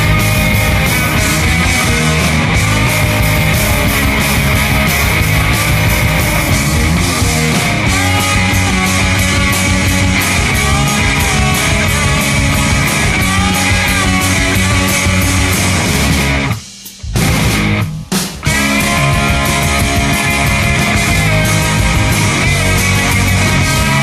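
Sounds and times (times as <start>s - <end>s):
punk rock music: 0.0s - 24.0s.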